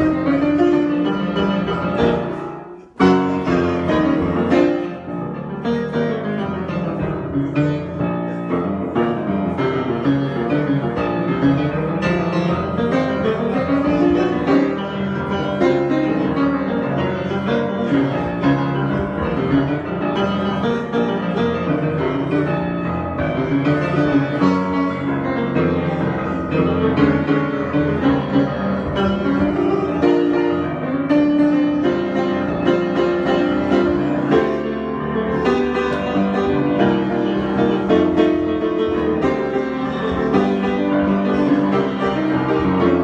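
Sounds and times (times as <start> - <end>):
piano improvisation: 0.0 - 43.0.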